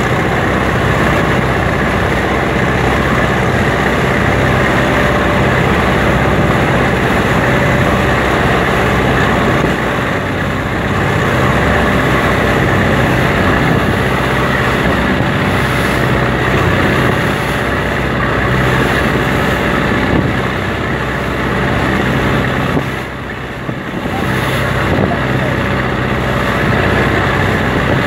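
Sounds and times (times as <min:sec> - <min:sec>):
boat engine running: 0:00.0 - 0:28.0
hull splashing through waves: 0:00.0 - 0:28.0
wind on microphone: 0:00.0 - 0:28.0.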